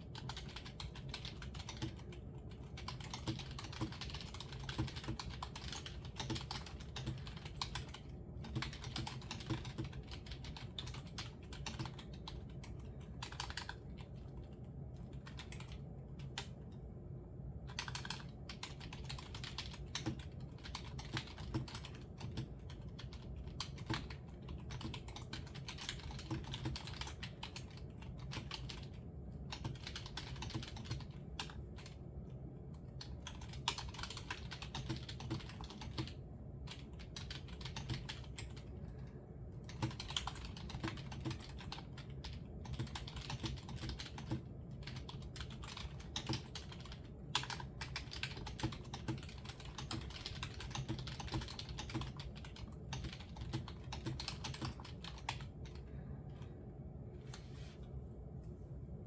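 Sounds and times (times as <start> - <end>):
typing on computer keyboard: 0.0 - 16.6, 17.6 - 38.9, 39.5 - 55.8
low steady hum: 0.0 - 59.0.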